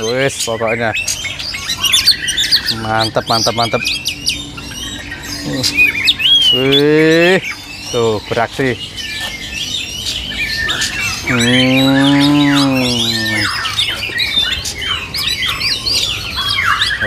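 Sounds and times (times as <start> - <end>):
birds chirping and whistling: 0.0 - 17.0
long low drawn-out call: 0.0 - 17.0.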